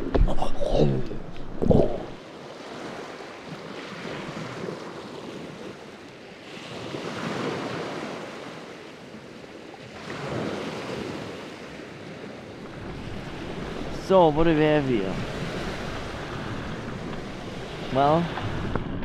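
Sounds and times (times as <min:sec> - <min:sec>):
wind: 0:00.0 - 0:19.0
surf on rocky beach: 0:01.2 - 0:19.0.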